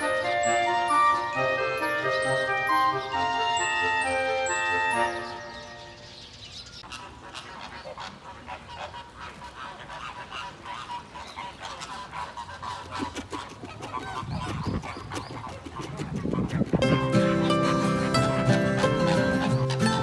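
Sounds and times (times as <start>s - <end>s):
flock of flamingos honking: 0.0s - 6.1s, 6.8s - 20.0s.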